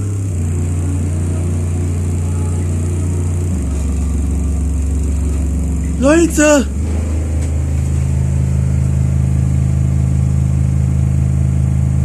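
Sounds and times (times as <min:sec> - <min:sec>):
deep bass tone from subwoofer: 0:00.0 - 0:12.0.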